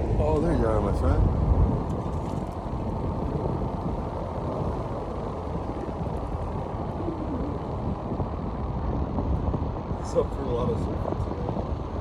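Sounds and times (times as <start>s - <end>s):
car road rumble and wind: 0.0s - 12.0s.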